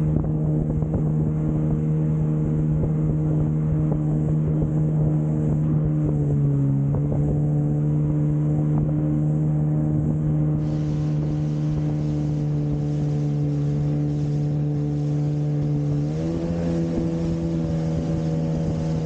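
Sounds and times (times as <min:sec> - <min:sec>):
jet ski engine running: 0:00.0 - 0:19.0
wind rushing over microphone: 0:00.0 - 0:19.0.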